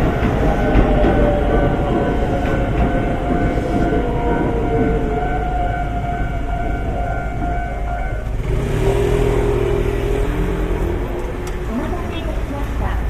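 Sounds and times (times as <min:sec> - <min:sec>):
train humming: 0:00.0 - 0:13.0
vehicle engine moving off: 0:00.0 - 0:13.0.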